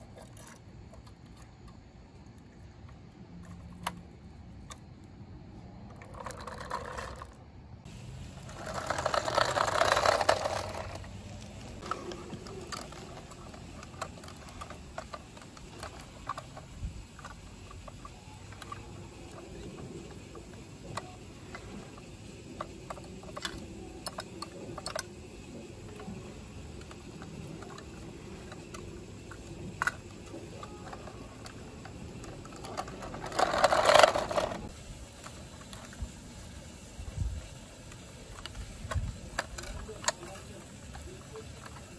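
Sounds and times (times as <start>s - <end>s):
small plastic clicks and scrapes: 0.0s - 5.0s, 5.9s - 7.4s, 8.6s - 35.9s, 38.3s - 41.9s.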